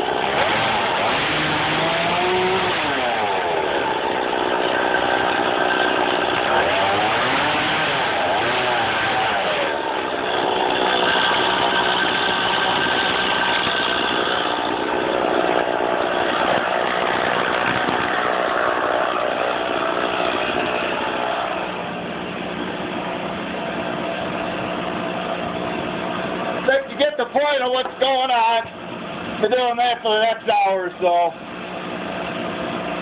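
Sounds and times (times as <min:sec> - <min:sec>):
chainsaw idling: 0:00.0 - 0:33.0.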